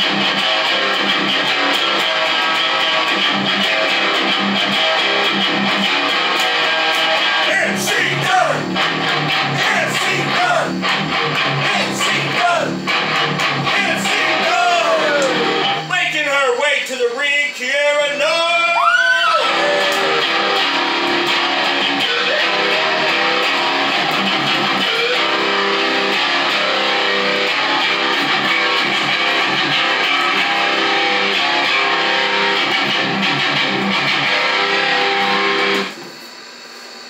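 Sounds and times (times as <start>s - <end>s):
electric guitar rock music: 0.0s - 16.0s, 19.2s - 36.0s.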